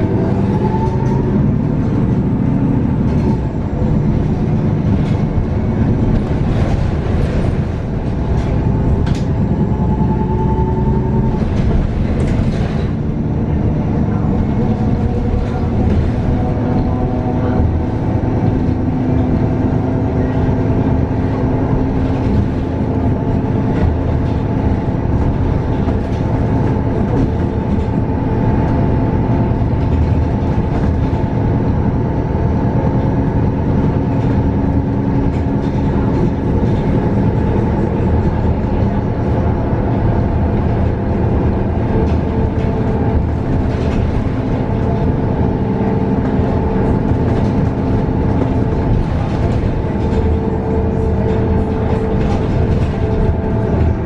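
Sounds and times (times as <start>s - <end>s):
bus drivetrain hum: 0.0s - 54.0s
road noise: 0.0s - 54.0s.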